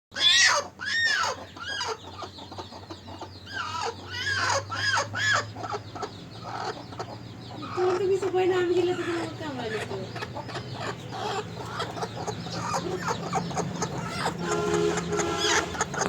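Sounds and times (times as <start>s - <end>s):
chicks peeping: 0.1s - 16.0s.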